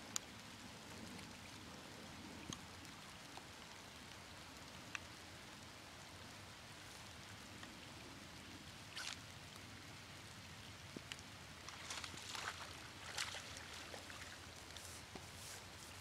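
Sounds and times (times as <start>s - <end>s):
raindrop ticks: 0.0s - 7.8s, 9.0s - 15.4s
faint rain patter: 0.0s - 16.0s.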